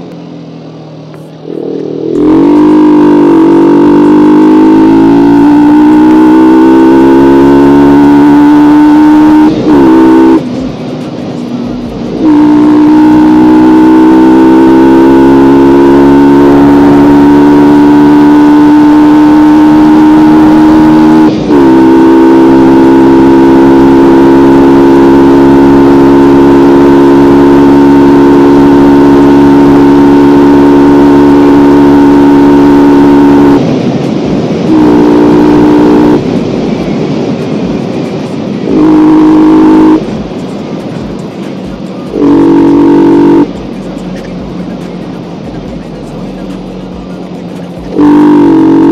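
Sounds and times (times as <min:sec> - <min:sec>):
motorcycle engine revving: 0:00.0 - 0:48.9
road and wind rush: 0:00.0 - 0:48.9.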